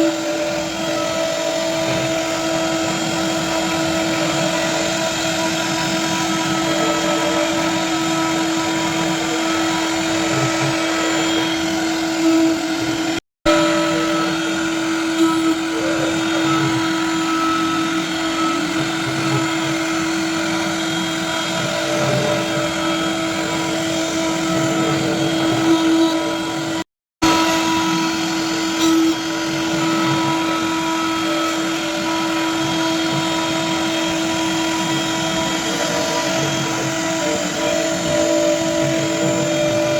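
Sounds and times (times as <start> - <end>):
lathe machine hum and whine: 0.0 - 39.9.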